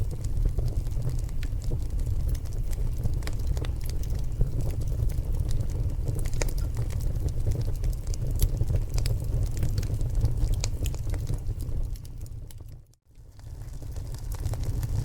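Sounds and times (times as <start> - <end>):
rumble of fire flames: 0.0 - 15.0
wood crackling and popping: 0.0 - 15.0.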